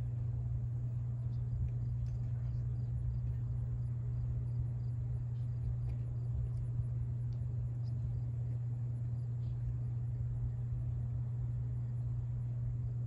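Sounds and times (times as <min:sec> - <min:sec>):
distant diesel locomotive rumble: 0:00.0 - 0:13.0
faint insect chirping: 0:00.0 - 0:13.0.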